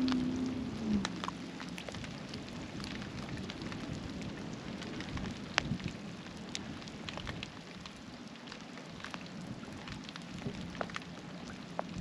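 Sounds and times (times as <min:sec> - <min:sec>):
rain hiss: 0:00.0 - 0:12.0
raindrops ticking: 0:00.0 - 0:12.0.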